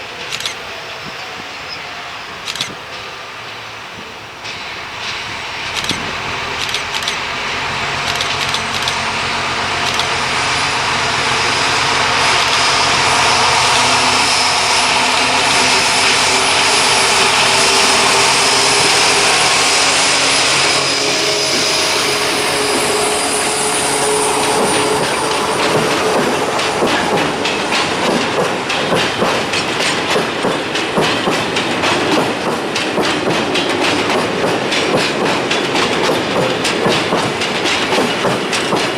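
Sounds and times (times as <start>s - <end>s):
locomotive engine: 0.0s - 38.9s
wheels clacking over rail joints: 4.5s - 20.6s, 22.7s - 38.9s.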